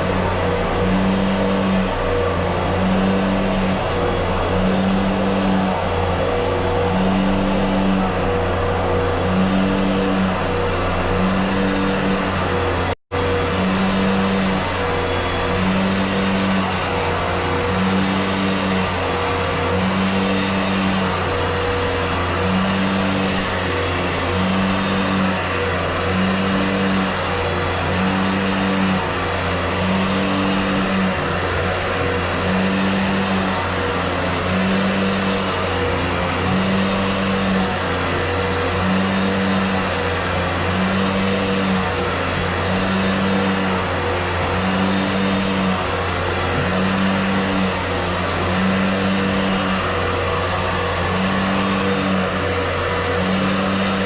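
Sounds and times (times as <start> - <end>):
drain cleaner motor humming: 0.0 - 54.0.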